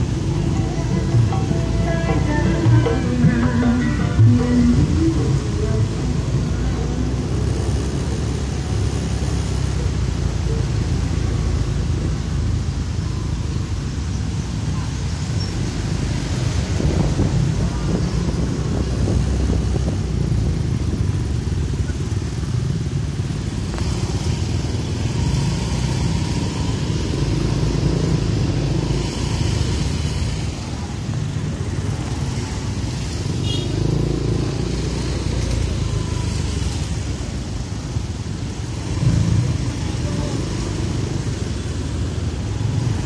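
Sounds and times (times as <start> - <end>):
scooter engines rumbling: 0.0 - 43.0.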